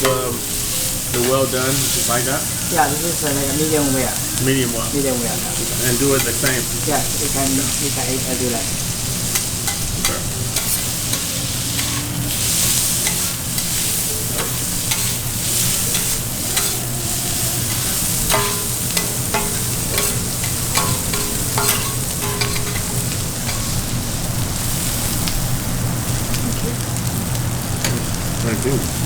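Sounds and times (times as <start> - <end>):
beef sizzling on a hot griddle: 0.0 - 29.0.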